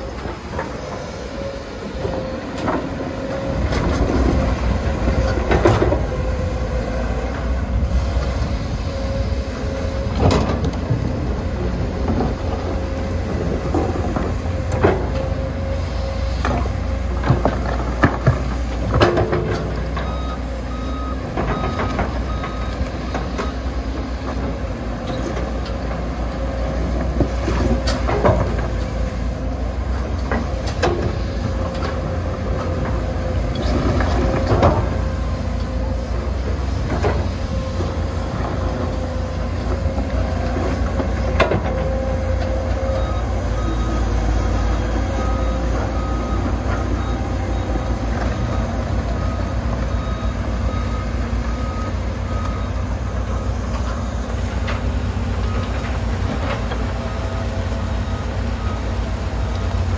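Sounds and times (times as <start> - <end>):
excavator diesel engine running: 0.0 - 59.9
reversing alarm beeping: 0.1 - 59.9.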